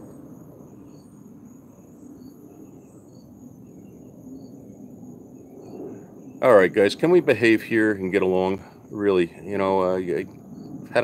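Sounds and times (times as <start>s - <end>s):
crickets chirping: 0.0s - 11.0s
low outdoor rumble: 0.0s - 11.0s.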